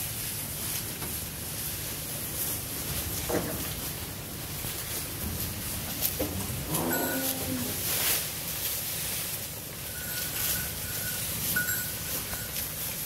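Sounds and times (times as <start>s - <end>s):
grass rustling: 0.0s - 13.0s.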